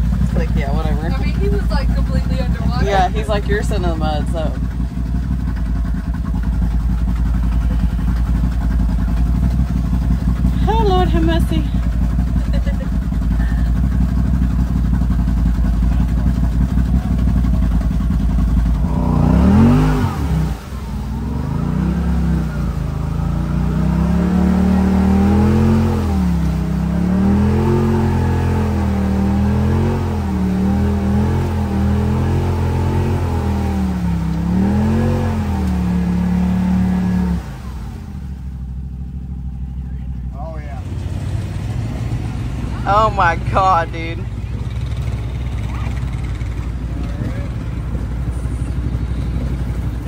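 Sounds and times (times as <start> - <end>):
off-road vehicle engine revving: 0.0 - 50.0.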